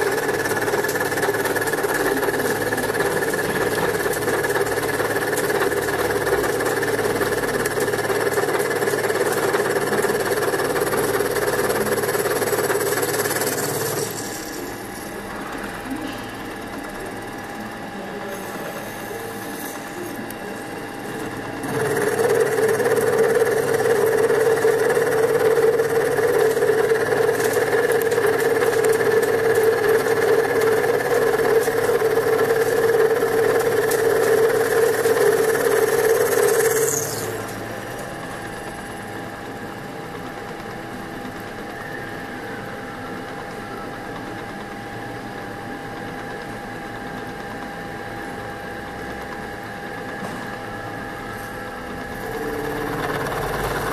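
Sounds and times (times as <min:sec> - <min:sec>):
electric hum: 0:00.0 - 0:53.9
milling spindle whine and cutting: 0:00.0 - 0:53.9.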